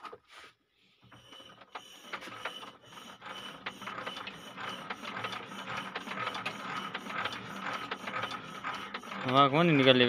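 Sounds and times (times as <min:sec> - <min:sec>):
diesel engine cranking with clicking: 0:01.0 - 0:10.0.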